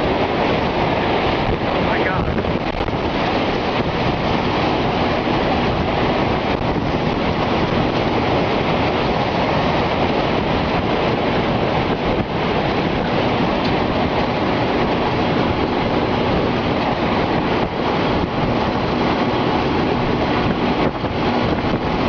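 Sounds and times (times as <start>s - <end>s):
strong wind roaring: 0.0s - 22.0s
wind buffeting microphone: 0.0s - 22.0s.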